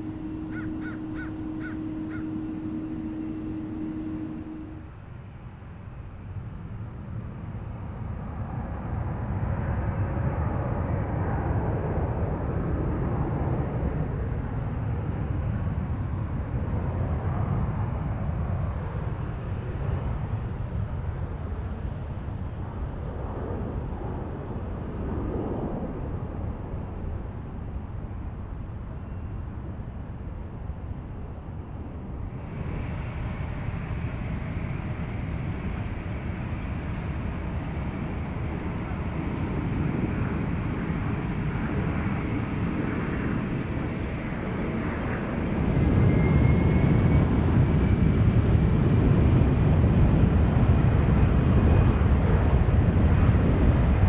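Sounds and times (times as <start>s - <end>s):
jet engine rumble and hiss: 0.0s - 54.0s.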